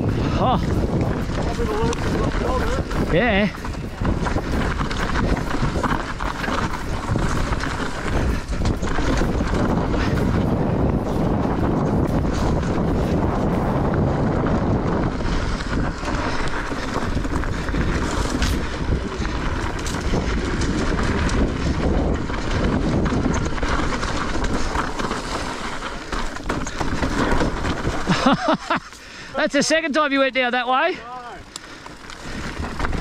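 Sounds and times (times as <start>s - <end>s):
tyre rumble on dirt: 0.0s - 28.9s, 31.8s - 33.0s
wind buffeting microphone: 0.0s - 29.9s, 30.9s - 33.0s
bike knocks and rattles: 0.1s - 29.0s, 31.7s - 33.0s.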